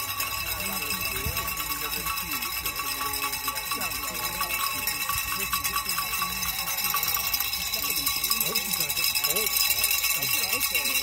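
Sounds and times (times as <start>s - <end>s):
cowbells clanking: 0.0s - 11.0s
murmur of voices: 0.0s - 11.0s.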